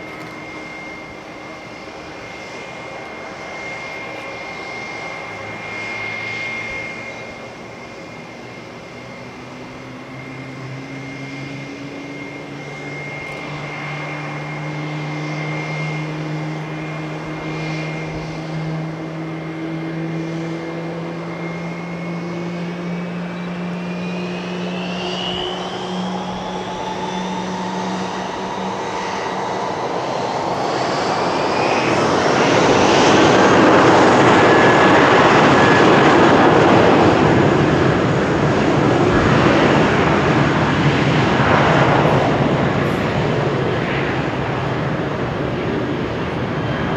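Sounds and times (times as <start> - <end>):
jet engine roar: 0.0 - 46.9
jet engine whine rising: 0.0 - 46.9.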